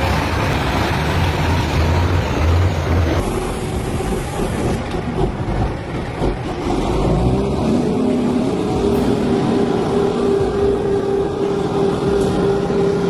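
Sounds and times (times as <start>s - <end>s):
rumbling road noise: 0.0s - 13.0s
truck engine running: 0.0s - 13.0s.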